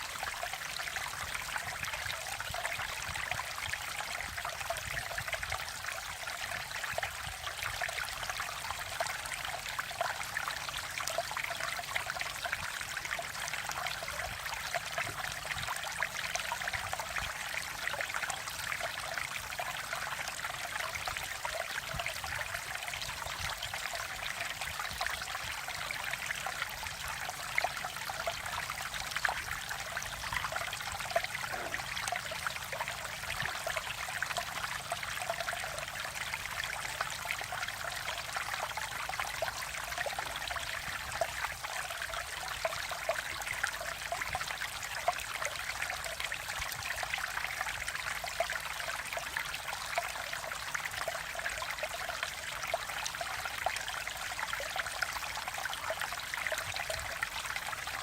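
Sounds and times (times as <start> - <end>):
stream water splashing over rocks: 0.0 - 58.0.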